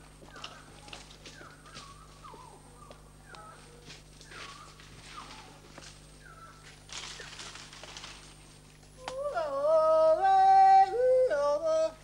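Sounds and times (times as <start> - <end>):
forest ambience: 0.0 - 12.0.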